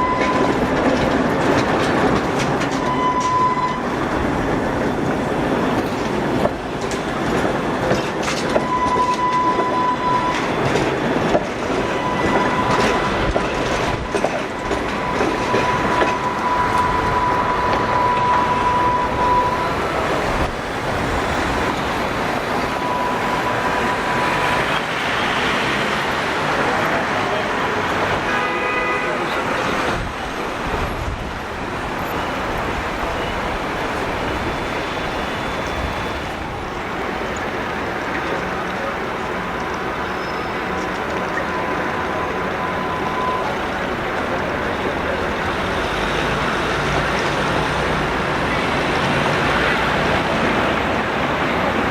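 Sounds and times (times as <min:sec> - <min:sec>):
road traffic: 0:00.0 - 0:51.9
tram running: 0:00.0 - 0:51.9
wheels squealing on rails: 0:00.0 - 0:51.9.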